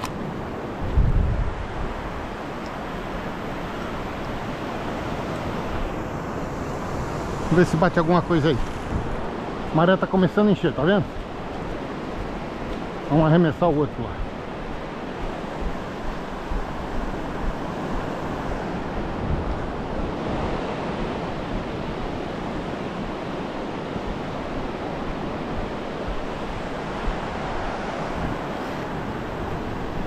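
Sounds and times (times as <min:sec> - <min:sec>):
wind buffeting microphone: 0:00.0 - 0:09.8, 0:14.0 - 0:30.0
ocean surf breaking on sand: 0:00.0 - 0:30.0.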